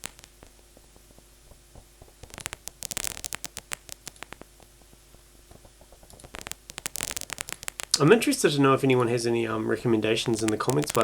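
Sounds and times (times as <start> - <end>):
synthesized paper crumpling: 0.0 - 0.5, 1.1 - 4.9, 5.5 - 11.0.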